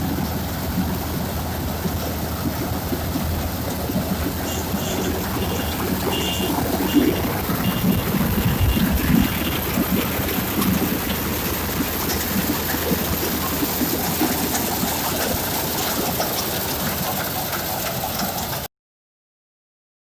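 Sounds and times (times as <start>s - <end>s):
combine harvester running: 0.0s - 18.7s.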